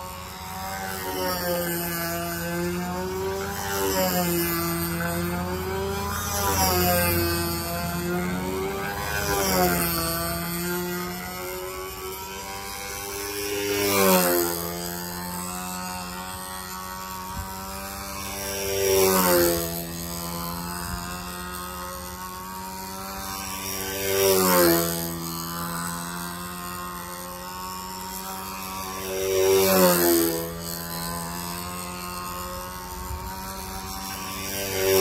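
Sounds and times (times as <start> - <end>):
model airplane motor droning: 0.0 - 35.0.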